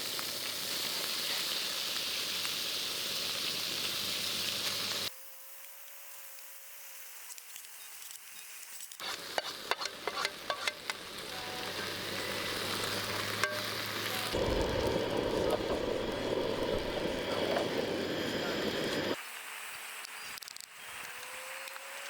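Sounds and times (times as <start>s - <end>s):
batter sizzling in a pan: 0.0s - 5.1s, 7.4s - 20.4s.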